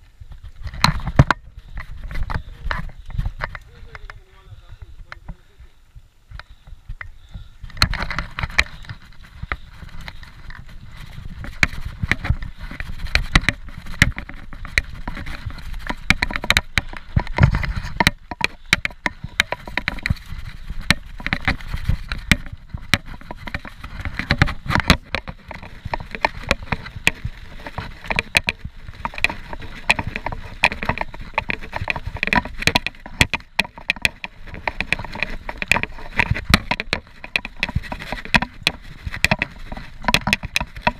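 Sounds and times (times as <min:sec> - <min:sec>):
bike rattling over bumps: 0:00.0 - 0:05.4, 0:06.6 - 0:40.9
wind rumbling on microphone: 0:00.0 - 0:40.9
tyre noise: 0:06.4 - 0:40.9.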